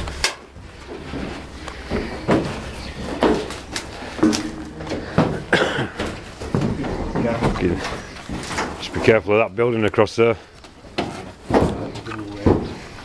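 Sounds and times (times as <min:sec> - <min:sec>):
footsteps on metal roof: 0:00.0 - 0:09.2, 0:10.6 - 0:13.0.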